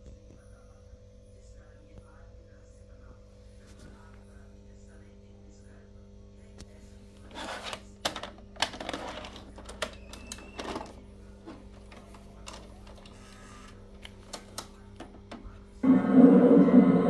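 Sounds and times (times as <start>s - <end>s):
mains hum: 0.0s - 17.0s.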